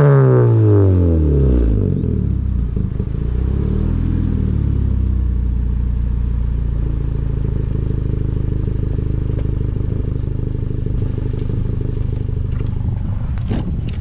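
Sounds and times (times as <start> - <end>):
car exhaust idling: 0.0 - 14.0.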